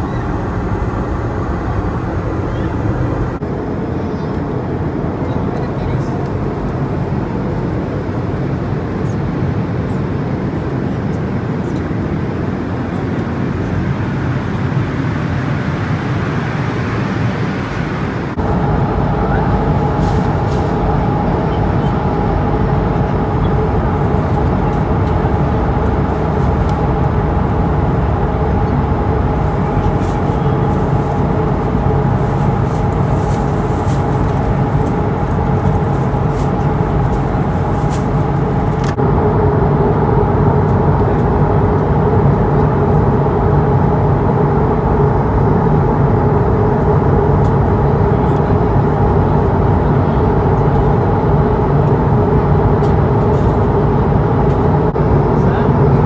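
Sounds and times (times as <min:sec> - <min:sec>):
airplane cabin rushing noise: 0:00.0 - 0:06.9, 0:11.7 - 0:56.0
droning engine tones: 0:00.0 - 0:07.6, 0:11.7 - 0:56.0.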